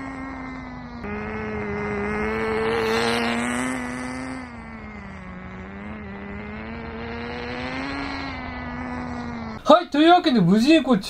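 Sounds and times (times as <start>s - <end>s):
model car engine buzzing past: 0.0s - 9.6s.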